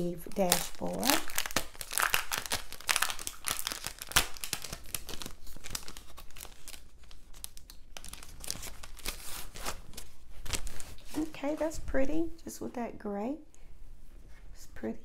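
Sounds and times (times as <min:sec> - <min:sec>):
plastic sheet crinkling: 0:00.0 - 0:12.3.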